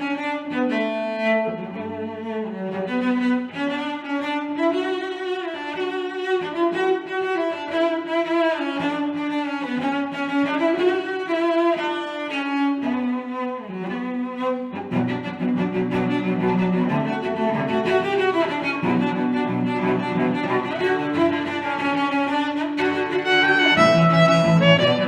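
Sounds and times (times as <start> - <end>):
slow bowed strings: 0.0 - 25.0.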